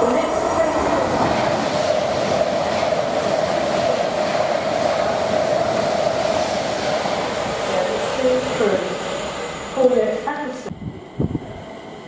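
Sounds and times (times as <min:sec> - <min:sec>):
train running on rails: 0:00.0 - 0:12.0.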